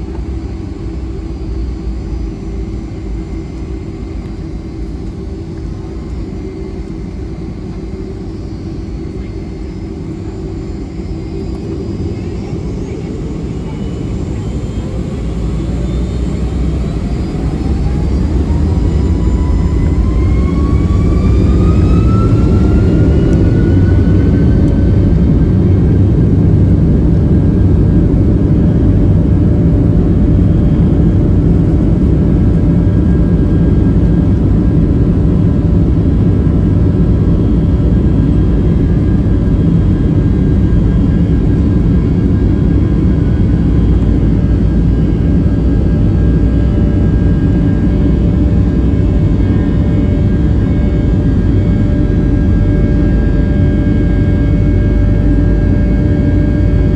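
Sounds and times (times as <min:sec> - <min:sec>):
jet engines spooling up: 0:00.0 - 0:56.9.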